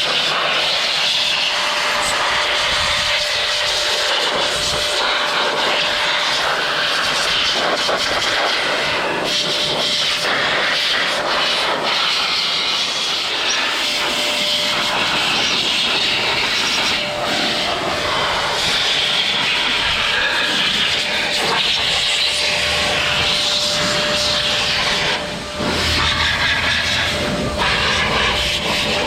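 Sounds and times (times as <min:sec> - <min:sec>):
toy trucks hissing on wet ground: 0:00.0 - 0:25.2
faint motor whine: 0:00.0 - 0:29.0.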